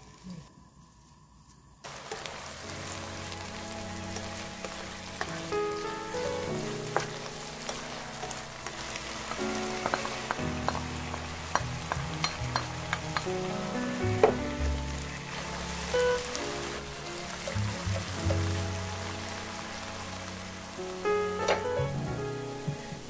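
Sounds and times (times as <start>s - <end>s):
leaves sizzling in oil: 1.8s - 23.0s
soft background music: 2.2s - 23.0s.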